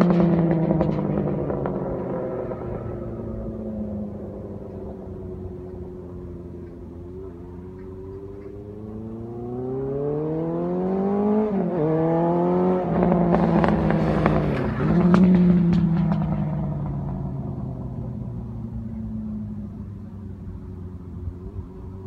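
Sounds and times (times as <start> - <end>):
exhaust crackles: 0.0 - 10.0, 12.7 - 22.0
motorcycle engine revving: 0.0 - 22.0.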